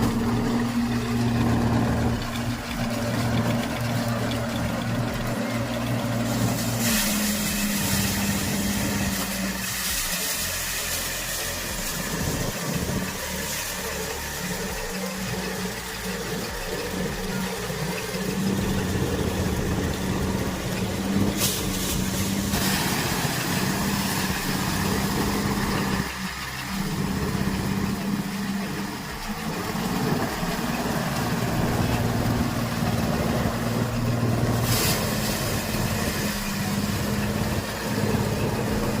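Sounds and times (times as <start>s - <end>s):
threshing machine running: 0.0s - 39.0s.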